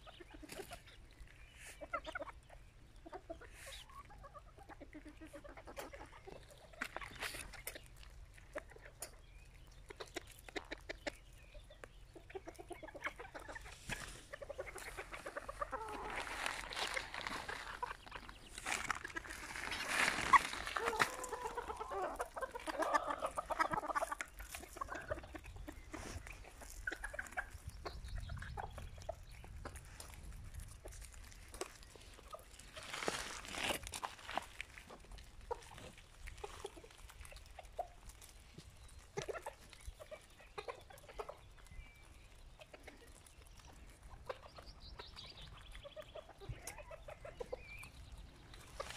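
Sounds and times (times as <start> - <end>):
chickens clucking: 0.0 - 48.9
pecking clicks on gravel: 4.5 - 48.9.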